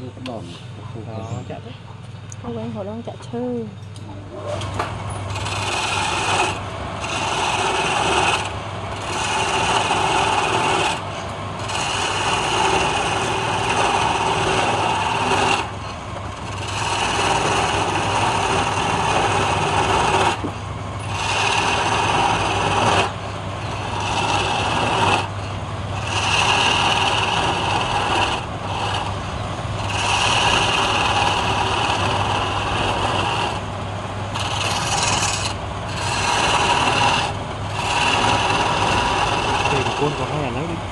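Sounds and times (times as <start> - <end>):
lathe tool scraping wood: 4.5 - 40.9.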